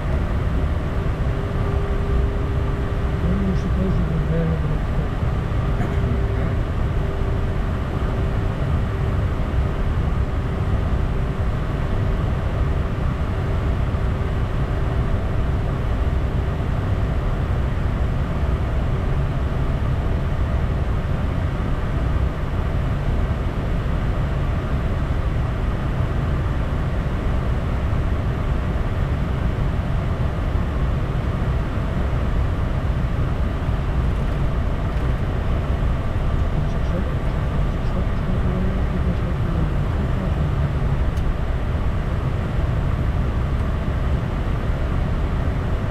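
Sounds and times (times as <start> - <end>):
jet cabin airflow and engine drone: 0.0 - 45.9.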